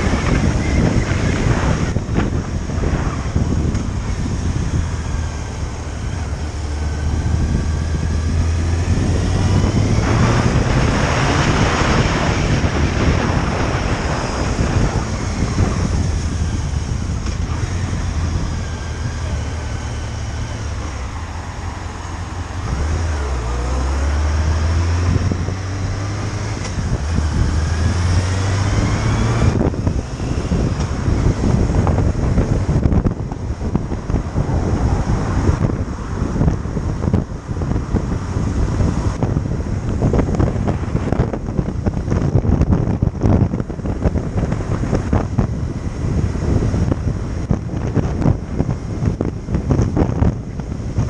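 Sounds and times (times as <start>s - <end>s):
motorcycle engine running: 0.0s - 23.6s, 25.0s - 51.0s
wind buffeting microphone: 0.0s - 51.0s.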